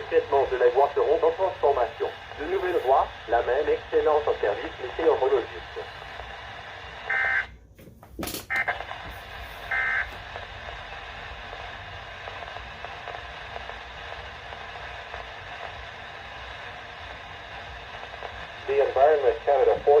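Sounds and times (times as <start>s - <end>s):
radio static hiss: 0.0s - 7.5s, 8.5s - 20.0s
radio crackle: 0.0s - 7.6s, 8.3s - 20.0s.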